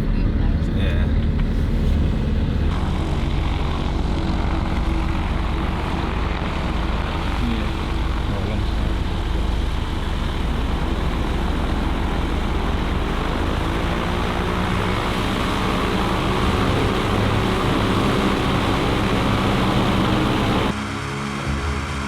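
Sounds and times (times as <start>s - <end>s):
propeller engine running: 0.0s - 22.0s
vehicle engine and road noise: 0.0s - 22.0s.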